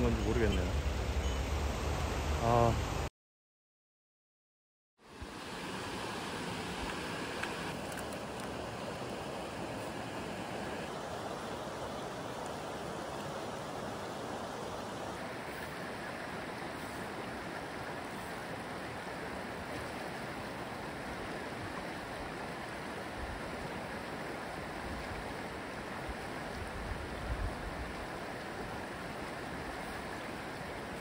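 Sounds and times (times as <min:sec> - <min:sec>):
stream water rushing: 0:00.0 - 0:03.1, 0:05.0 - 0:31.0.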